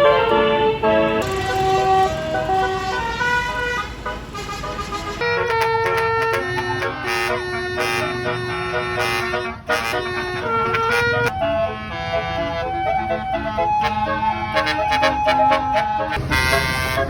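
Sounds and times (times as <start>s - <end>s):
multi-tone bus horn melody: 0.0s - 17.0s.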